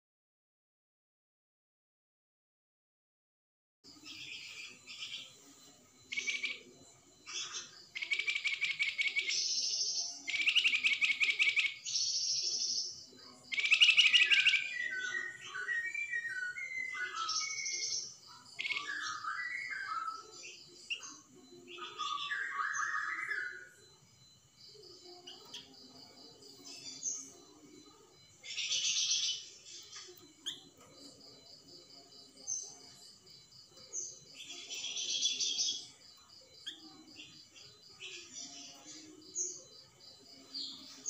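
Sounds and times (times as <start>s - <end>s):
songbird buzzing trills: 3.9s - 41.0s.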